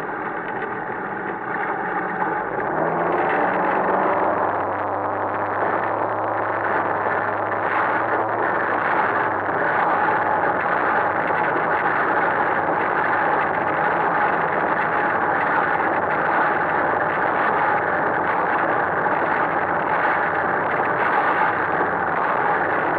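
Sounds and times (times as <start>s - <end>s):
boat engine running: 0.0s - 22.9s
low hum: 0.0s - 22.9s.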